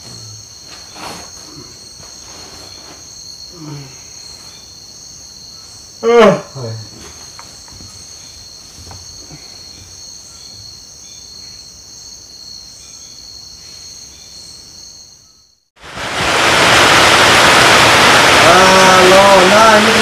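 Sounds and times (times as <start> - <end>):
night insects trilling: 0.0 - 15.6, 16.4 - 20.0.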